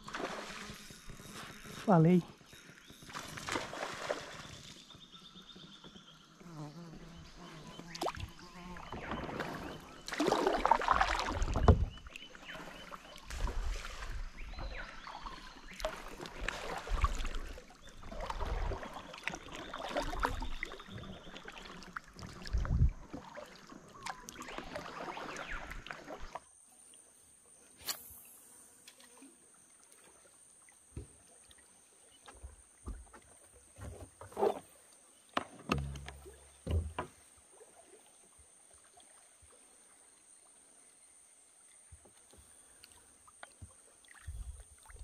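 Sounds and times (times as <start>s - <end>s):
kayak paddle splashing water: 0.0s - 6.0s, 7.8s - 26.6s, 29.0s - 40.8s, 41.6s - 45.0s.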